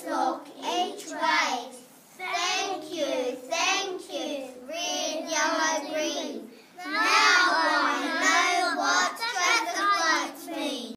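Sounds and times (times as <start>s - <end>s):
child singing: 0.0s - 10.9s.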